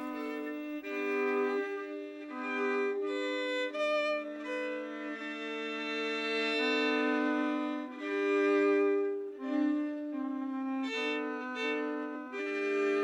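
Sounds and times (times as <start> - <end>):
slow violin music: 0.0 - 13.0.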